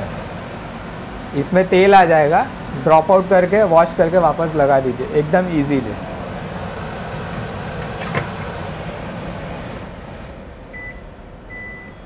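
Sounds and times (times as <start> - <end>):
range hood fan: 0.0 - 12.0.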